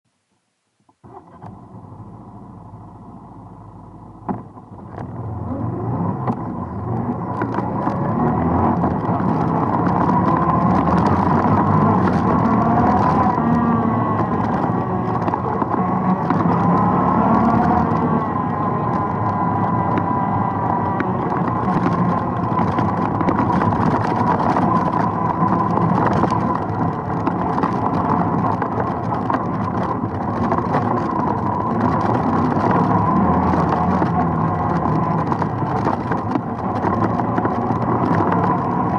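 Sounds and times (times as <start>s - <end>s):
atv engine running: 1.0s - 38.9s.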